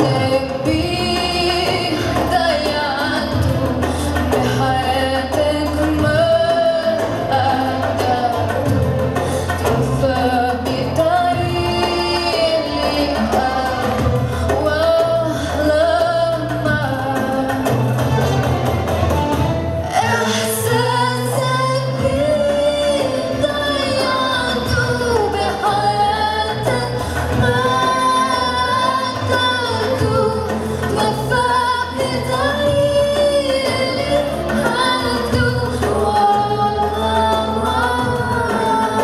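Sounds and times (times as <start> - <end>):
woman singing into a microphone: 0.0 - 18.7, 19.3 - 39.0
instrumental accompaniment with bass: 0.0 - 39.0.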